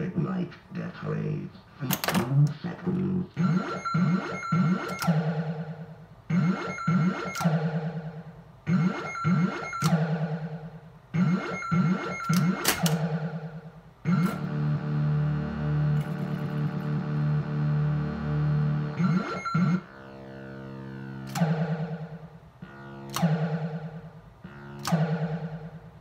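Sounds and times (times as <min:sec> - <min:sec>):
pinball electronic alarm tones: 0:03.4 - 0:26.0.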